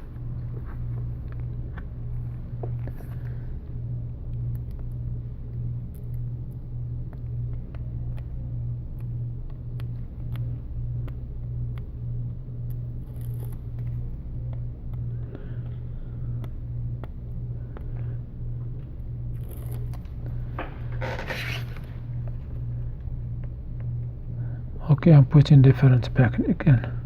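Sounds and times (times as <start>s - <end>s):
pulsing low hum: 0.0s - 27.0s.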